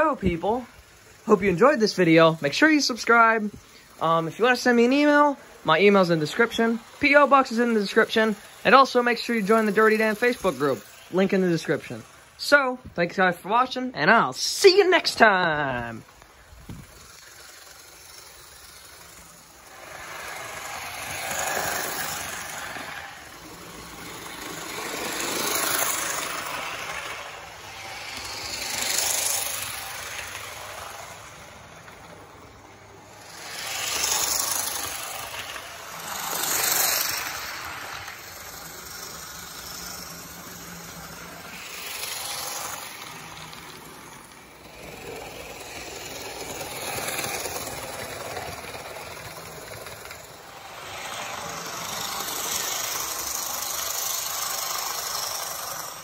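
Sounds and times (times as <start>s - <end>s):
model train rattling on track: 0.0s - 56.0s.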